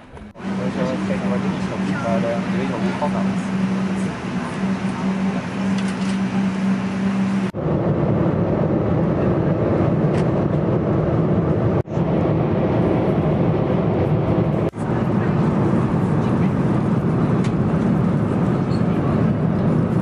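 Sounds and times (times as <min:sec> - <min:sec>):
engine roar and rushing air: 0:00.0 - 0:20.0
steady low hum: 0:00.1 - 0:20.0.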